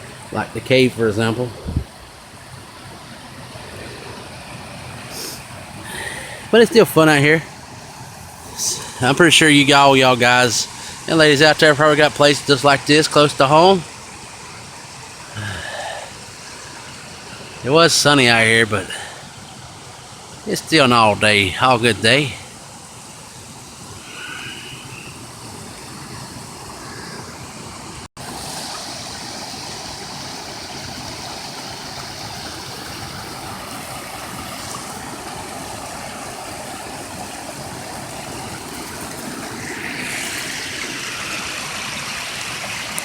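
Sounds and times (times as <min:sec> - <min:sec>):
waterfall and creek water rushing: 0:00.0 - 0:43.0.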